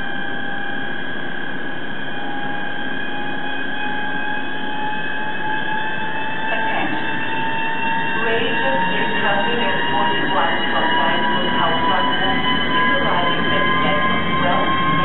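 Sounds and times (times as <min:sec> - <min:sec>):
electric locomotive whining: 0:00.0 - 0:15.0
rising tonal glides: 0:01.9 - 0:15.0.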